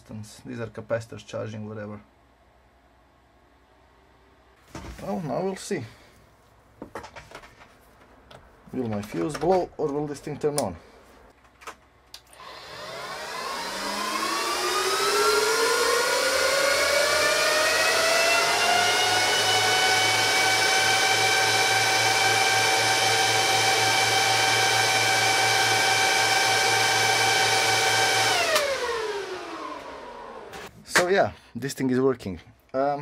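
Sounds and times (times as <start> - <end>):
cooling fans whining: 0.0 - 31.1.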